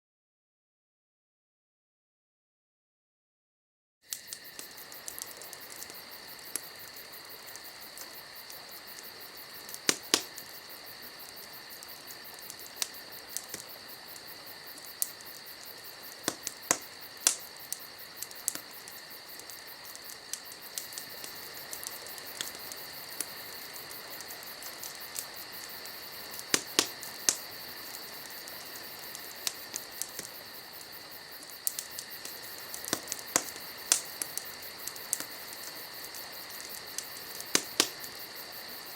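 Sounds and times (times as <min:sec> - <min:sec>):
crickets chirring: 0:04.1 - 0:38.9
sharp pops of fire: 0:04.1 - 0:38.9
wood fire crackling: 0:04.1 - 0:38.9.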